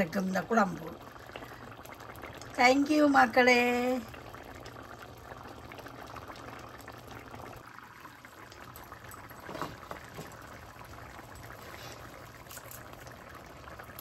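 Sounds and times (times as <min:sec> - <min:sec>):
curry bubbling in a pot: 0:00.0 - 0:14.0.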